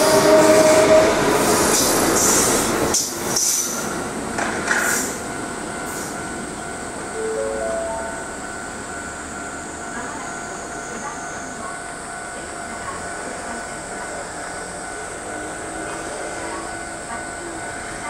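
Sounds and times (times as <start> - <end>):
standing train humming: 0.0 - 18.0
train arriving: 0.0 - 18.0.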